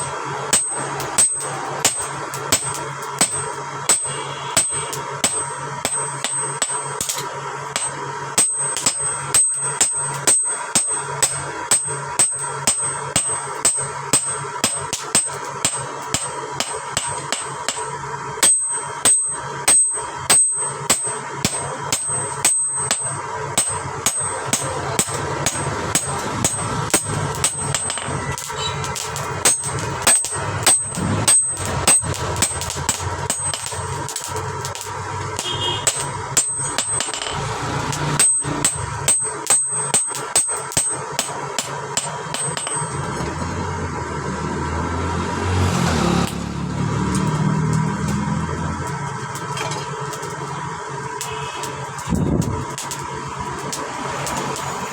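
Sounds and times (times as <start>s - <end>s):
hammer striking metal: 0.0s - 54.9s.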